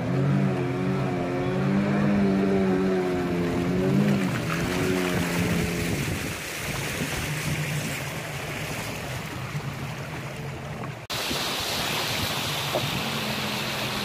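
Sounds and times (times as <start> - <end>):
outboard motor running: 0.0 - 14.0
rush of shallow water: 0.0 - 14.0
water rushing along hull: 0.0 - 14.0.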